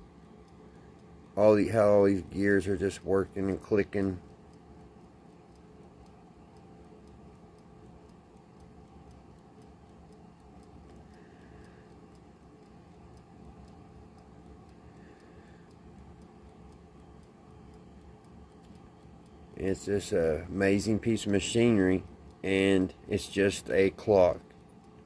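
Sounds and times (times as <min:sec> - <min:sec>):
clockwork ticking: 0:00.0 - 0:25.0.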